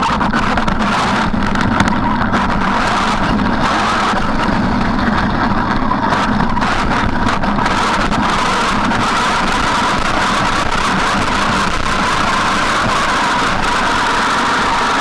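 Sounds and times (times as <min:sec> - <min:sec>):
rc truck motor whine: 0:00.0 - 0:15.0
rough running noise: 0:00.0 - 0:15.0.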